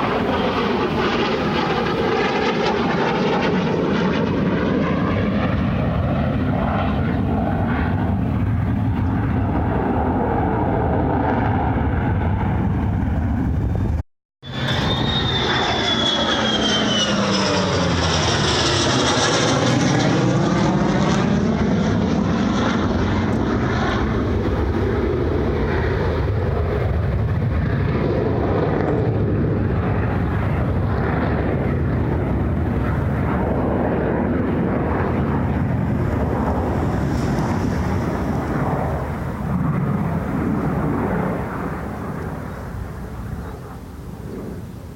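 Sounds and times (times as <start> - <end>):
jet flying past: 0.0 - 44.9.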